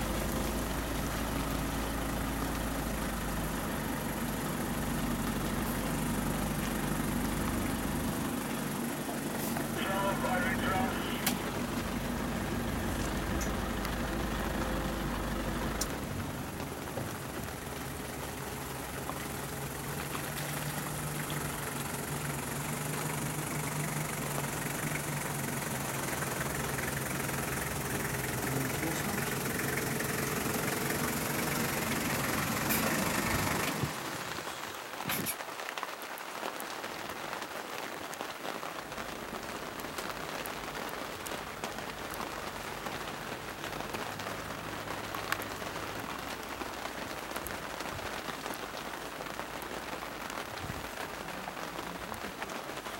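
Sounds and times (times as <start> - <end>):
vehicle engine idling: 0.0 - 35.0, 38.8 - 52.9
heavy rain hissing: 0.0 - 52.9
raindrops tapping: 0.0 - 52.9.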